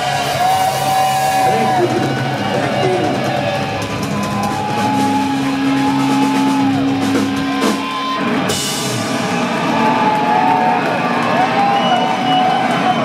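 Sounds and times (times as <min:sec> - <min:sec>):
live rock band playing: 0:00.0 - 0:12.8.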